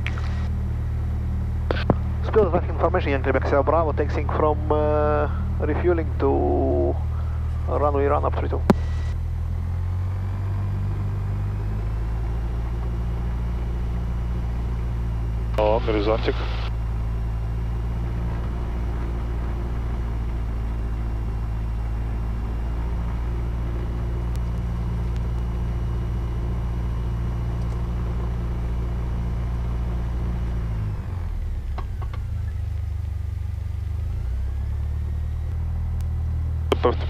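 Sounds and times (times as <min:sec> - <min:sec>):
plane engine and propeller: 0:00.0 - 0:37.0.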